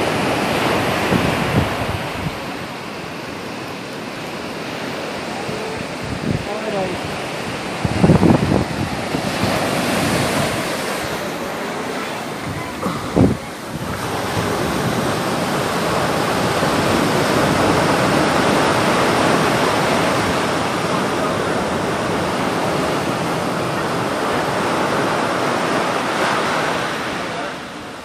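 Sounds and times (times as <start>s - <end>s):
sea waves breaking on beach: 0.0s - 28.0s.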